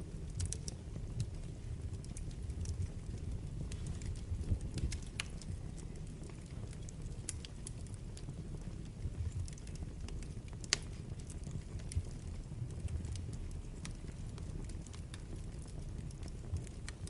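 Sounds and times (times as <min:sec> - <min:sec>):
fire crackles and pops: 0:00.0 - 0:17.0
fire rumbling in fireplace: 0:00.0 - 0:17.0.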